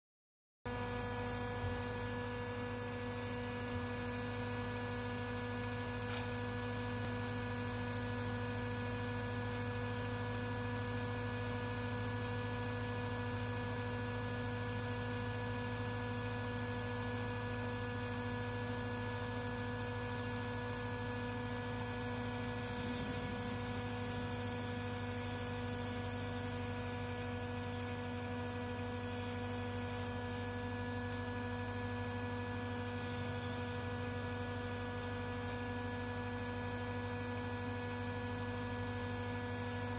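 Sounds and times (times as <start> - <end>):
steady motor hum with tones: 0.7 - 39.9.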